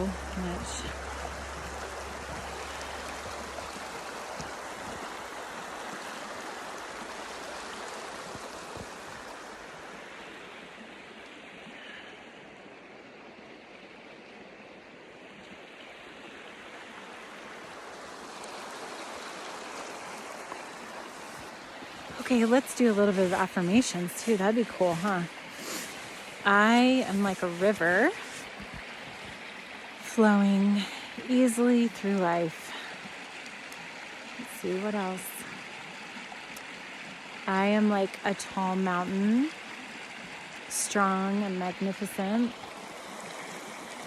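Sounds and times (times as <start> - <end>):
water rushing over rocks: 0.0 - 13.4, 14.8 - 44.0.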